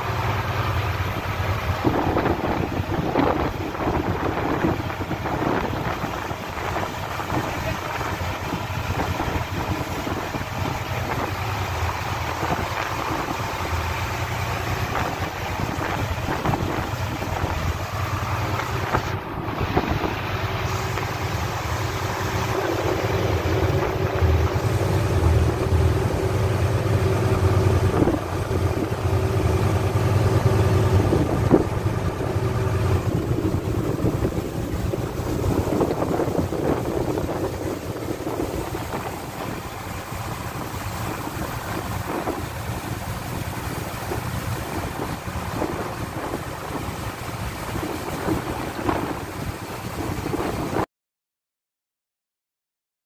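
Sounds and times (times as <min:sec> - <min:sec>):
boat engine humming: 0:00.0 - 0:50.8
rough sea: 0:00.0 - 0:50.9
wind buffeting microphone: 0:00.0 - 0:50.9.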